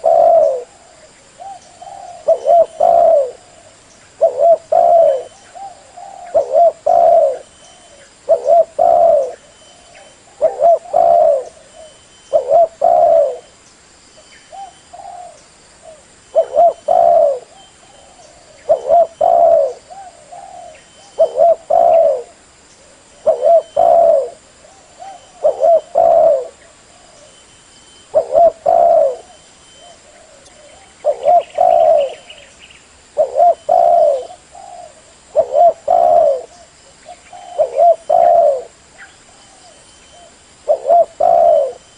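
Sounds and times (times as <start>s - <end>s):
dove cooing: 0.0s - 13.5s, 14.5s - 27.4s, 28.0s - 32.5s, 33.1s - 41.9s.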